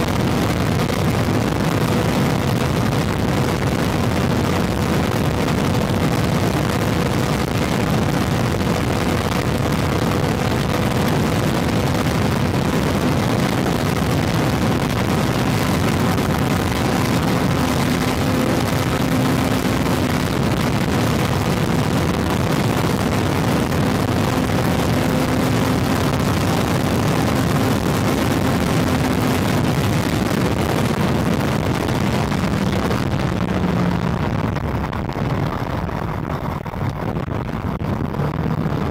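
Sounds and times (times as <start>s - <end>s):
motorcycle engine drone: 0.0s - 38.9s
wind and road rush: 0.0s - 38.9s.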